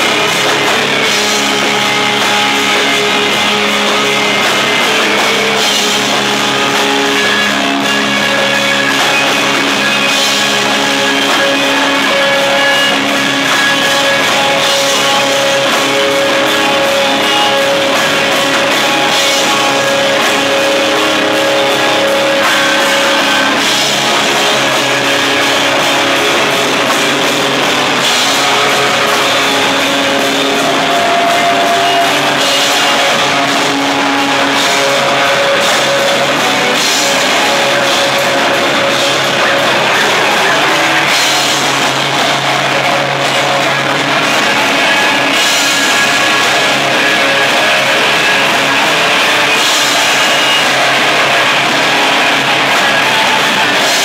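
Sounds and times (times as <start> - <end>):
drum kit with cymbals: 0.0 - 54.0
electric guitars: 0.0 - 54.0.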